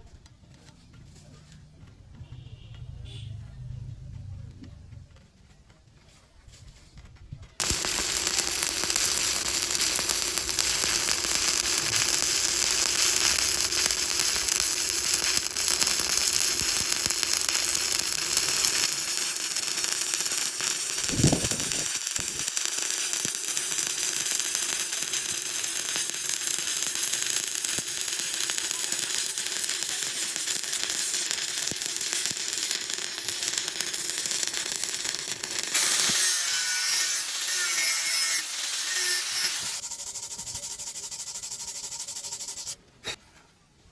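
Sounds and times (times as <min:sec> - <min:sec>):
welding arc crackling: 0:07.6 - 0:42.8.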